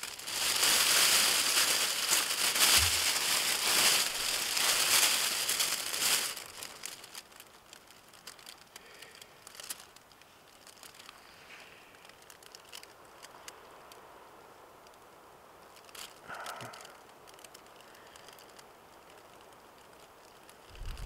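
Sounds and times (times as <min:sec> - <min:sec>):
survival blanket crinkling: 0:00.0 - 0:13.5, 0:15.8 - 0:21.0.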